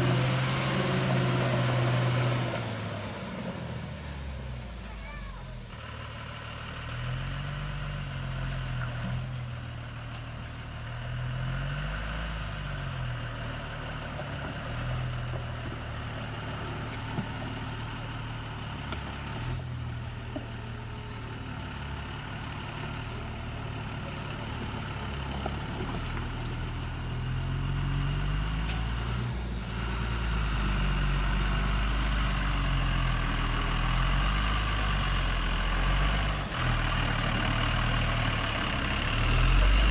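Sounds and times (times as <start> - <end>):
engine idling: 2.7 - 39.9.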